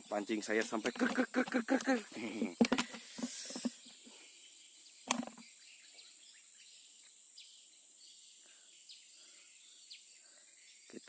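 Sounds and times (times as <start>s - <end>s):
faint bird chirps: 0.0s - 11.0s
insect drone: 0.0s - 11.0s.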